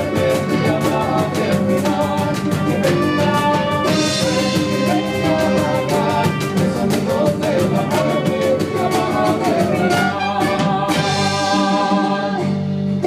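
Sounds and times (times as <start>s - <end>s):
drum strokes: 0.0s - 12.2s
band melody: 0.0s - 13.0s.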